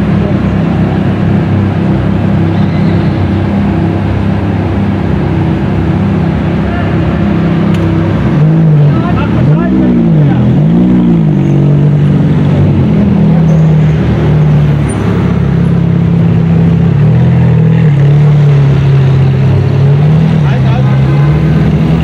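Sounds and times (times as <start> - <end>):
engine throttle blips: 0.0 - 22.0
low engine note: 0.0 - 22.0.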